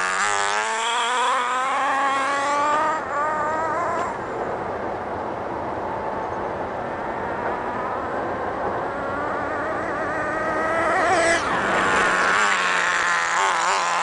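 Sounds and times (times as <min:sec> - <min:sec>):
rc truck engine whining: 0:00.0 - 0:04.8, 0:06.9 - 0:14.0.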